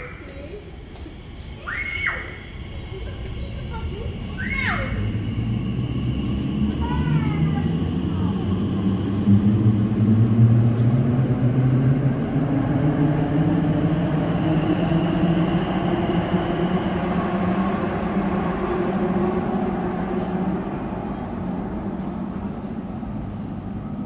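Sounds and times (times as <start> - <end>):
steady rumble: 2.2 - 24.0
train motors rising in pitch: 2.3 - 23.9.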